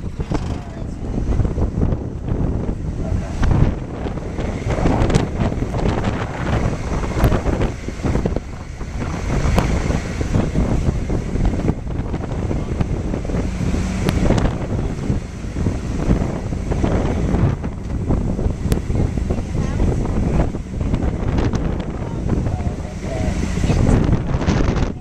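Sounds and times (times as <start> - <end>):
truck rumbling: 0.0 - 25.0
wind buffeting microphone: 0.0 - 25.0.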